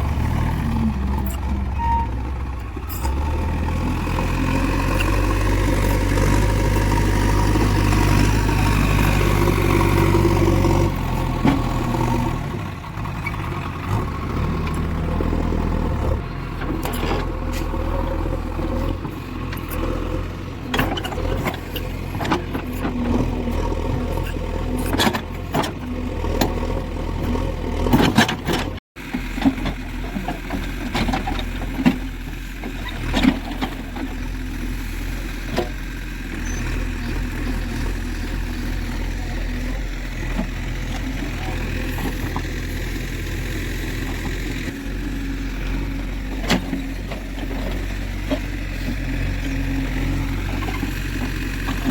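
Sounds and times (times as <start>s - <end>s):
diesel engine under load: 0.0s - 51.9s.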